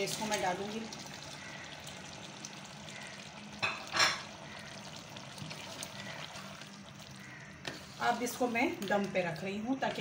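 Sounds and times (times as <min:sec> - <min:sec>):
food simmering and sizzling: 0:00.0 - 0:10.0.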